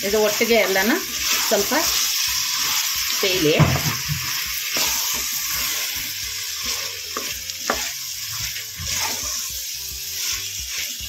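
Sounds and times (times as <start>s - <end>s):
vegetables sizzling in hot oil: 0.0s - 11.0s
spatula scraping pan: 0.1s - 11.0s.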